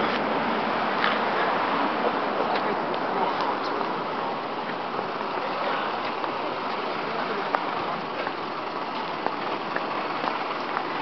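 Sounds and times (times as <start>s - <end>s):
steady street hiss: 0.0s - 11.0s.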